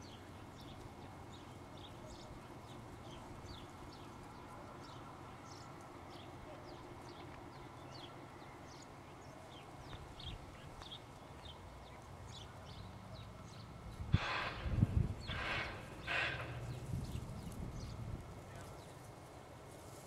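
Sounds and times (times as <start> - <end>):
small birds chirping: 0.0 - 19.2
low steady rumble: 0.0 - 19.8.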